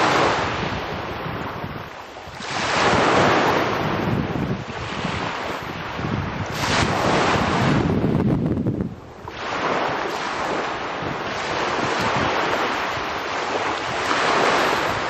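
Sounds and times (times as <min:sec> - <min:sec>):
waves washing up pebble shore: 0:00.0 - 0:08.2, 0:09.2 - 0:15.0.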